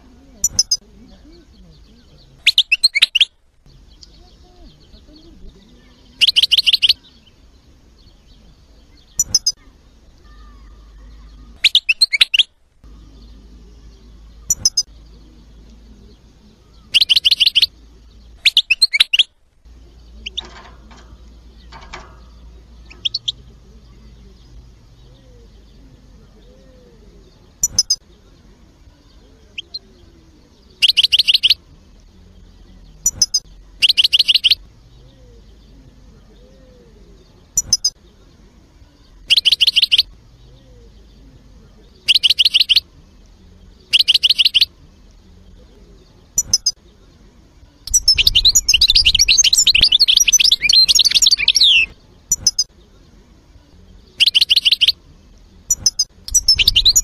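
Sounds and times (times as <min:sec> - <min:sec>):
bird twittering song: 0:00.0 - 0:57.0
faint low hum: 0:00.0 - 0:57.0.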